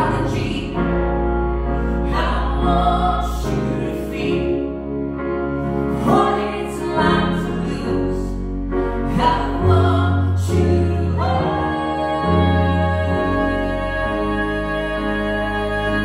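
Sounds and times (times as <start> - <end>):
grand piano: 0.0 - 16.0.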